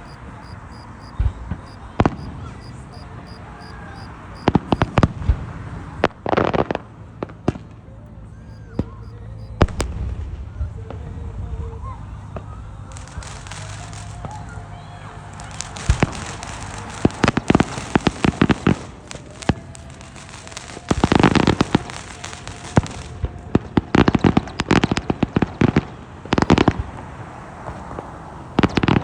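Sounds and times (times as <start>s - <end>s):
fireworks bangs and crackling pops: 0.0s - 7.9s, 8.5s - 29.0s.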